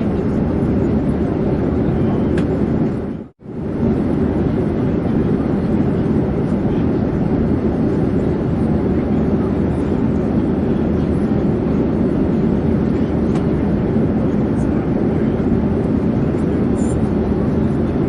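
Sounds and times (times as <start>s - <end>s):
airplane rumbling in flight: 0.0s - 18.0s.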